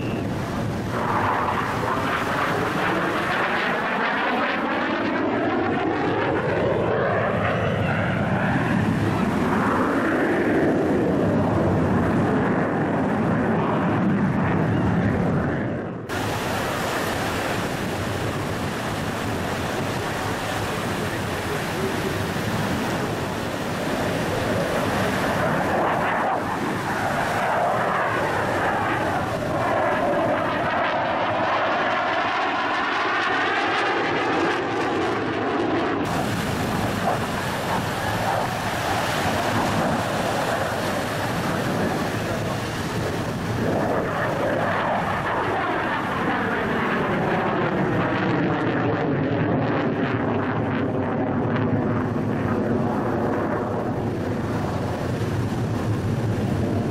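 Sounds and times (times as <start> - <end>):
jet flying overhead: 0.0 - 56.9.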